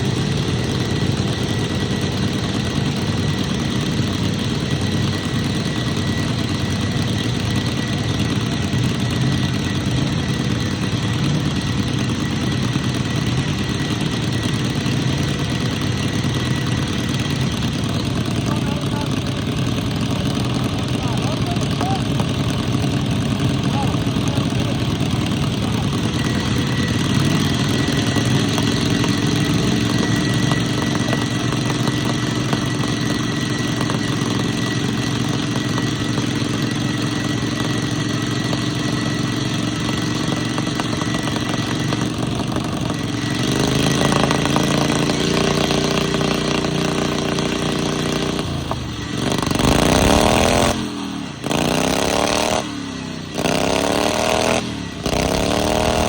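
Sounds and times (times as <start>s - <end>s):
lawn mower engines running: 0.0s - 56.0s.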